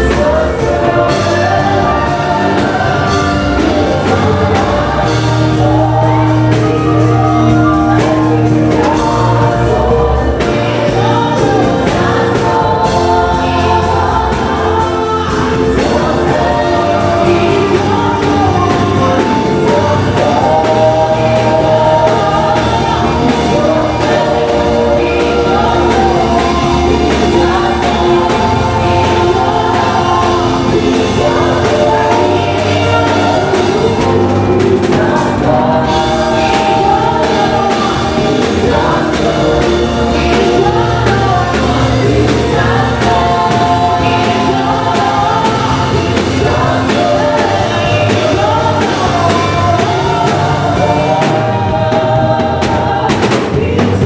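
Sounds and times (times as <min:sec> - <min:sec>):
choir singing gospel song: 0:00.0 - 0:54.0
instrumental backing with bass line: 0:00.0 - 0:54.0.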